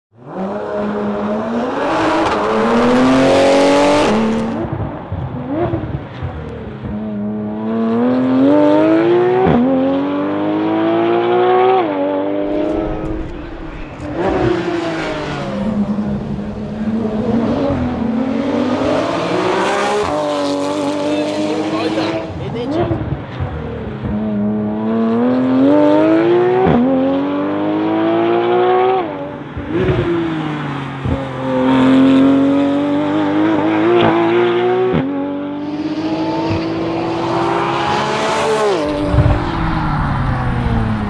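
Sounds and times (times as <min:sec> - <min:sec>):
car engine revving hard: 0:00.2 - 0:04.7, 0:07.1 - 0:41.0.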